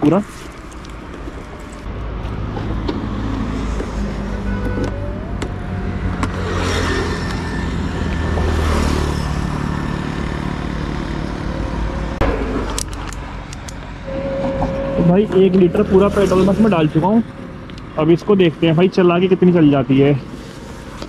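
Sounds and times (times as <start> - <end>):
highway traffic hum: 0.0 - 21.0
vehicles passing by: 0.0 - 21.0.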